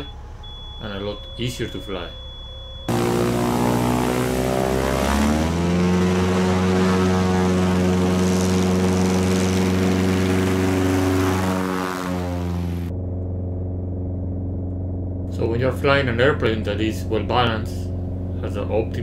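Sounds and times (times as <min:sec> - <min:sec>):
airplane engine and propeller: 0:02.9 - 0:19.0.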